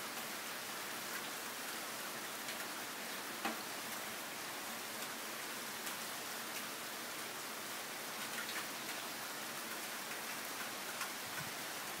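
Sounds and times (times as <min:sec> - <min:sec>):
rain on pavement and cars: 0:00.0 - 0:12.0.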